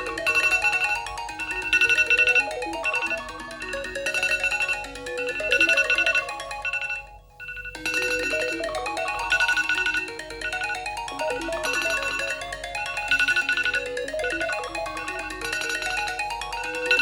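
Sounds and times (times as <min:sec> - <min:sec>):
electronic alarm melody: 0:00.0 - 0:17.0.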